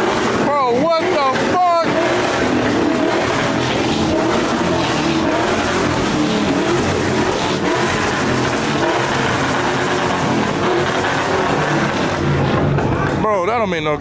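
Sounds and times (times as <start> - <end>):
truck engine running loud: 0.0 - 14.0.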